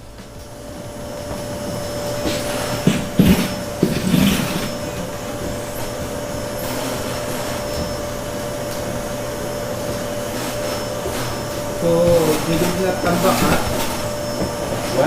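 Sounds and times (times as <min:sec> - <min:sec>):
machine whirring and humming: 0:00.0 - 0:15.0.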